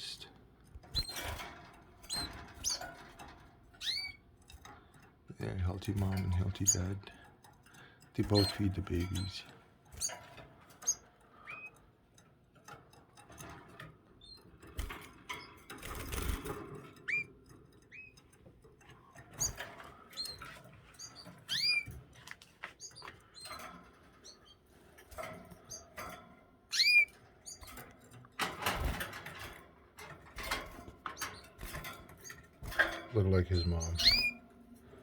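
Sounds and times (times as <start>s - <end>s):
canaries chirping: 0.0s - 35.0s.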